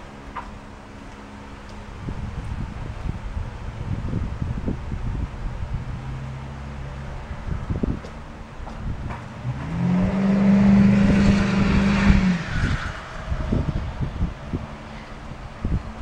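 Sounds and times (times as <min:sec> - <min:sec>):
truck engine accelerating: 0:01.6 - 0:16.0.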